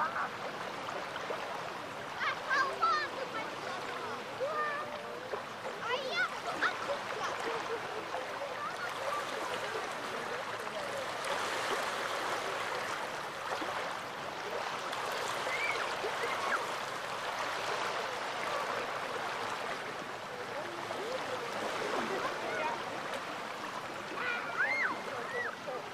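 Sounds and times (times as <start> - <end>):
waves washing onto beach: 0.0 - 25.9.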